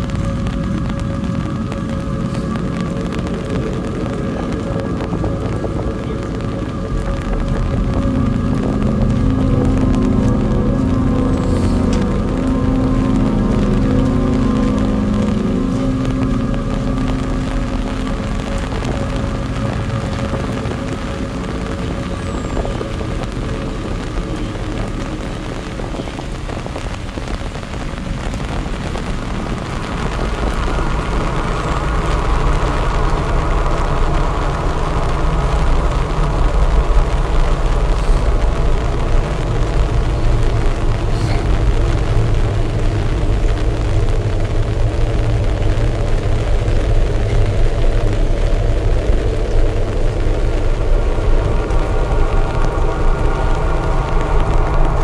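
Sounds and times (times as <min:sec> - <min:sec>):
heavy rain falling: 0:00.0 - 0:55.0
low hum with rumble: 0:00.0 - 0:55.0.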